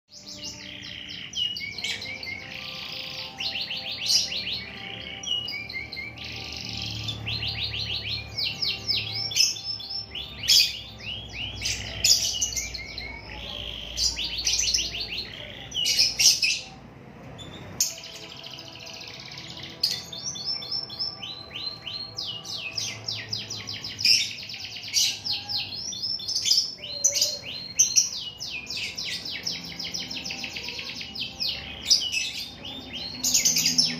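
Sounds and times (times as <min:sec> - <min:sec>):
canary trilling and chirping: 0:00.1 - 0:33.9.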